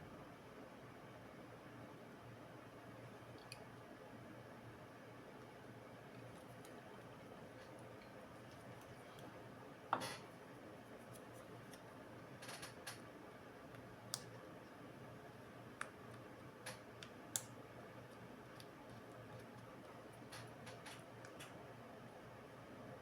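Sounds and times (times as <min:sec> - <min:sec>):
faint steady background hum: 0:00.0 - 0:23.0.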